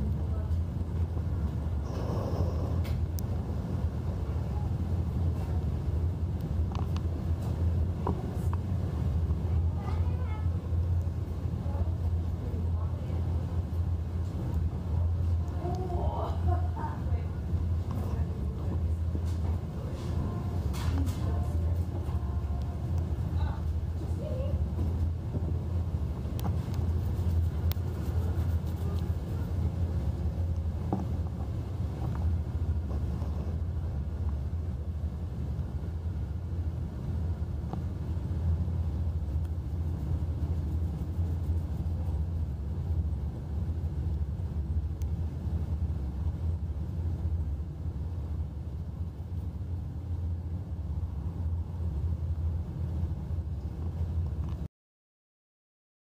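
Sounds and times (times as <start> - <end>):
ship engines droning: 0.0 - 54.3.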